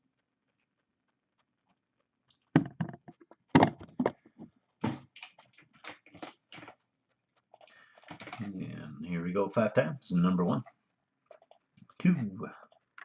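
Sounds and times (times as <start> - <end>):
keyboard and mouse clicks: 0.1 - 8.8, 10.4 - 13.0.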